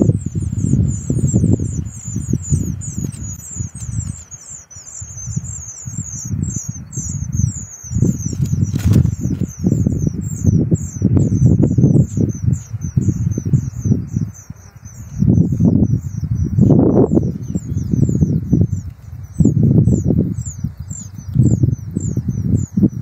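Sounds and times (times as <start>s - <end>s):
rapid high-pitched chirps: 0.0s - 23.0s
wind buffeting the microphone: 0.0s - 23.0s.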